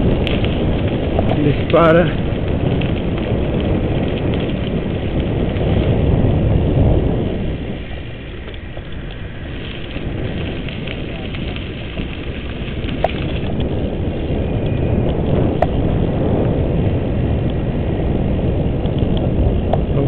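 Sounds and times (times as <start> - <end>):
bike tyre rumble: 0.0 - 20.0
wind rushing over microphone: 0.0 - 20.0.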